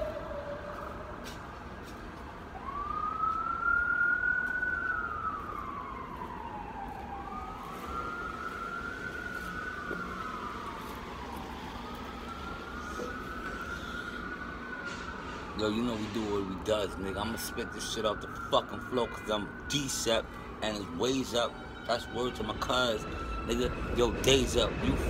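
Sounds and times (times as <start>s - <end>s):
emergency vehicle siren wailing: 0.0s - 25.0s.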